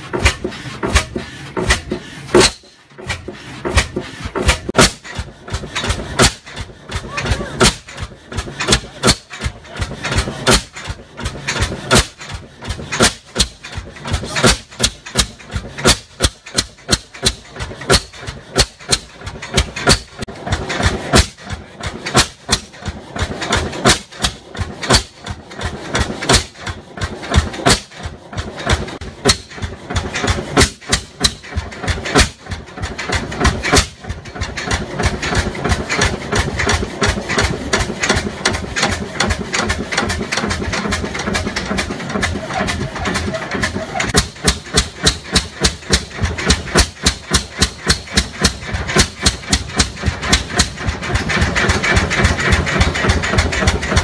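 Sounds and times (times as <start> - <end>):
gas engine beating slowly: 0.0 - 54.0.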